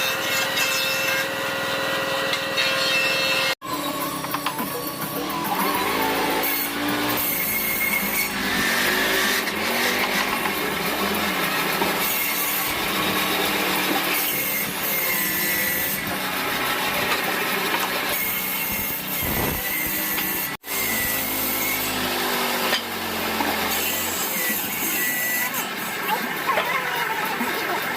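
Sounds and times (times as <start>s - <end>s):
power tool cutting wood: 0.0s - 27.9s.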